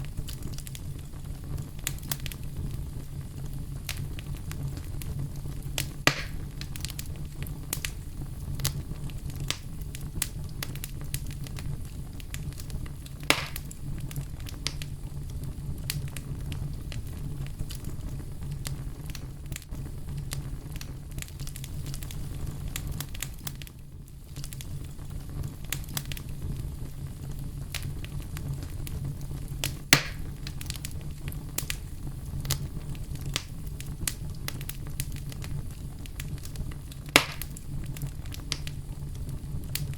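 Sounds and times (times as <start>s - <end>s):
bonfire rumbling: 0.0s - 39.9s
fire crackling and popping: 0.0s - 39.9s.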